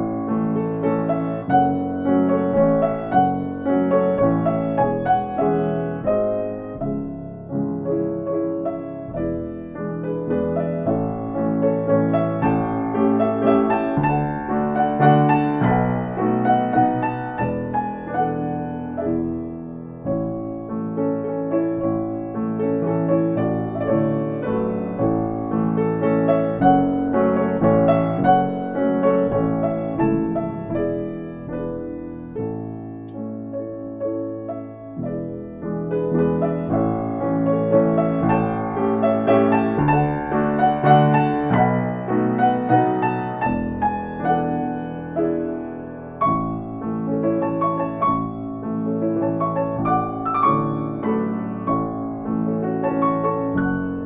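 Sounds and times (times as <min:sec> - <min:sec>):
piano piece: 0:00.0 - 0:54.0.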